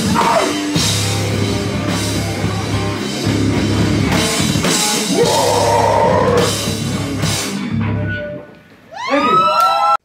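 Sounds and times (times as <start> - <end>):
rock band playing loud: 0.0 - 8.5.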